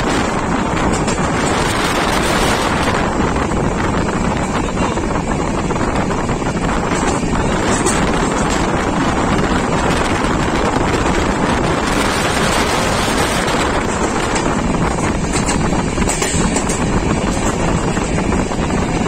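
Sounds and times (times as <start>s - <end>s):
train running at speed: 0.0s - 19.0s
wind buffeting microphone: 0.0s - 19.0s.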